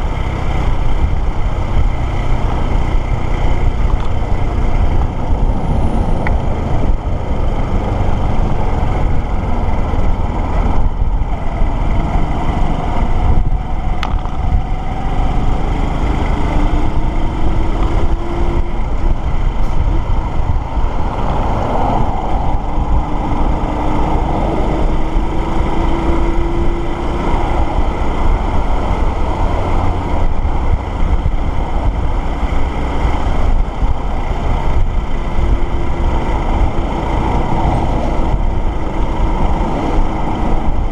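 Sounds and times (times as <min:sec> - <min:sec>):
motorcycle engine accelerating: 0:00.0 - 0:40.9
wind rushing over microphone: 0:00.0 - 0:40.9.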